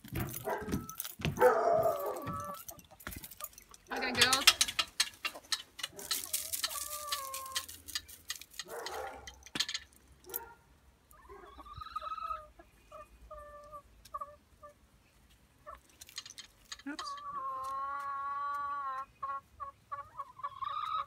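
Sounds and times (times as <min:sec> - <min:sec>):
rustle: 0:00.0 - 0:19.2
hens calling: 0:00.4 - 0:09.4, 0:11.1 - 0:14.8, 0:15.6 - 0:21.0.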